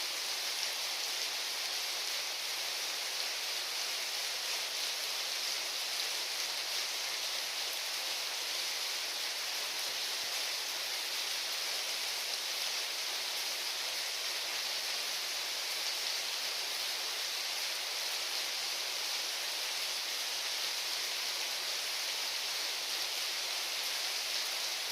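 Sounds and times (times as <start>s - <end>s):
steady rainfall: 0.0s - 24.9s.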